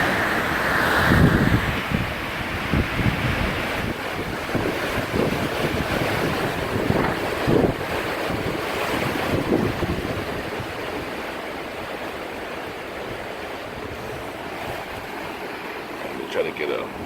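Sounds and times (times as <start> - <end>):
strong wind blowing: 0.0 - 17.0
wind buffeting microphone: 0.0 - 17.0.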